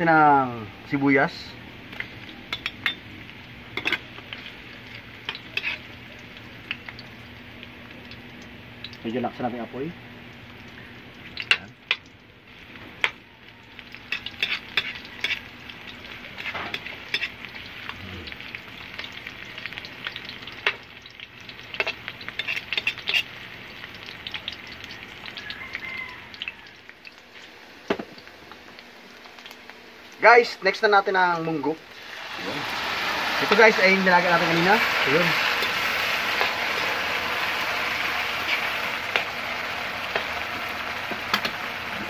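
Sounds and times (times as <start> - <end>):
garlic and onion sizzling in oil: 0.0 - 42.0.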